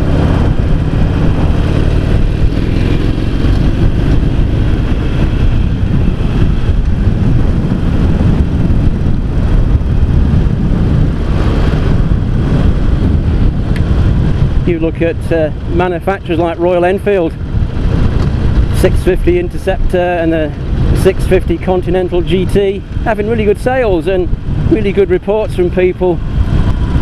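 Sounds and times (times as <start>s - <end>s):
motorcycle engine running: 0.0s - 27.0s
road noise: 0.0s - 27.0s.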